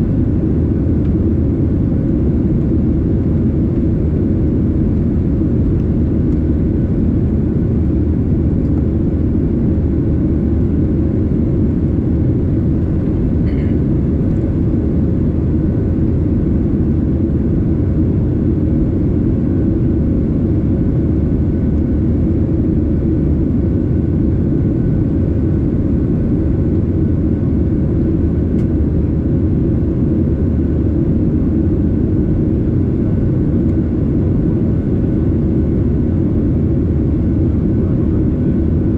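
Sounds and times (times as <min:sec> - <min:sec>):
faint steady hum: 0:00.0 - 0:38.9
jet engines rumbling: 0:00.0 - 0:38.9.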